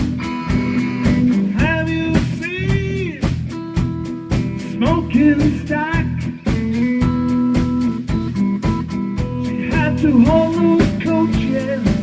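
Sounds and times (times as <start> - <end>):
song with singing guitar and drums: 0.0 - 12.0.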